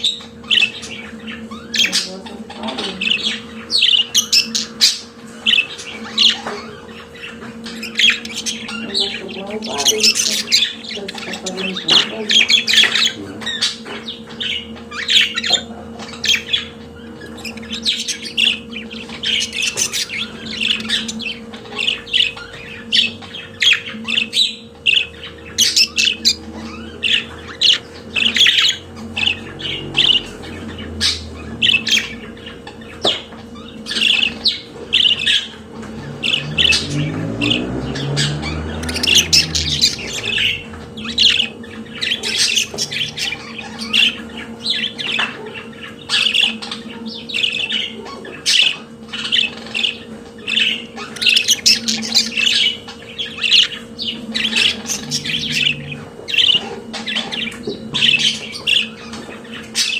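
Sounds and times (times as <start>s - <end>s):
budgerigars chirping and squawking: 0.0s - 59.9s
steady low hum: 0.0s - 59.9s.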